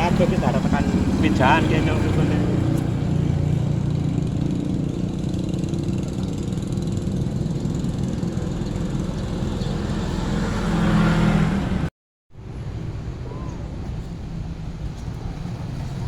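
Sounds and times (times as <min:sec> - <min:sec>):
passing traffic engine rumble: 0:00.0 - 0:16.0.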